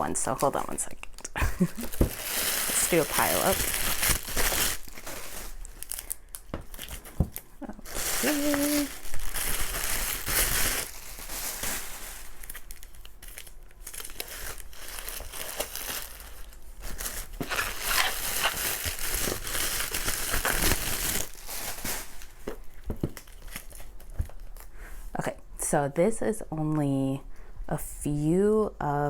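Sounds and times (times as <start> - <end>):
packaging crinkling: 0.2 - 24.7.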